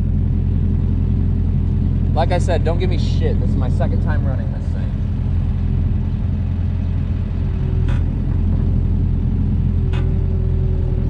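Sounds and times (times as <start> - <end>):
mini excavator engine running: 0.0 - 11.0
steady whine: 0.0 - 11.0.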